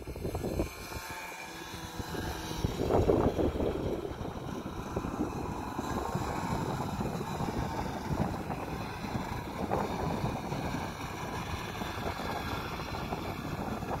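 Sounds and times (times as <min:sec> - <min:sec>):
snowmobile engine running: 0:00.0 - 0:14.0
wind buffeting microphone: 0:00.0 - 0:14.0.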